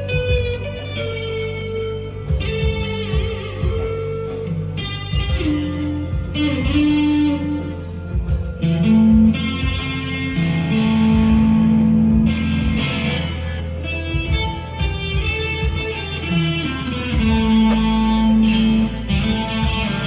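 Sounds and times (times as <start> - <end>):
backing track with bass and drums: 0.0 - 20.0
overdriven electric guitar lead: 0.0 - 20.0.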